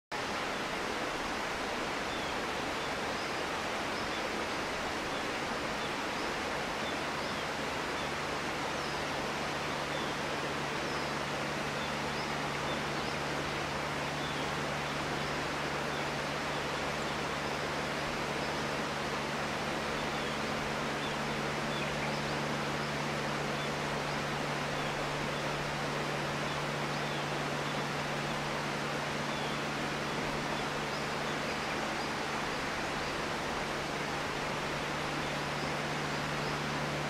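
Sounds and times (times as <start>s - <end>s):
outdoor ambience hiss: 0.1s - 37.0s
low steady hum: 0.3s - 37.0s.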